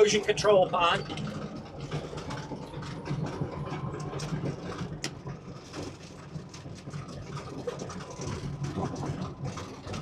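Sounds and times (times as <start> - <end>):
light clanks and rattles: 0.0 - 10.0.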